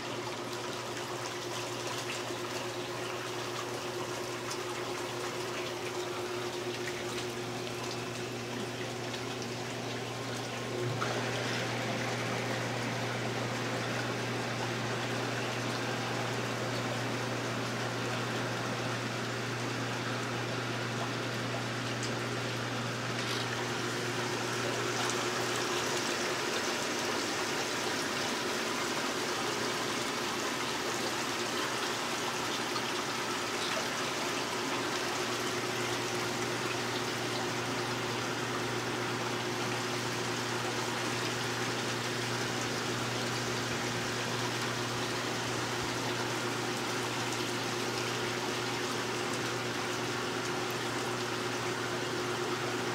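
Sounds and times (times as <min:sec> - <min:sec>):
pump humming: 0:00.0 - 0:52.9
water splashing and trickling: 0:00.0 - 0:52.9.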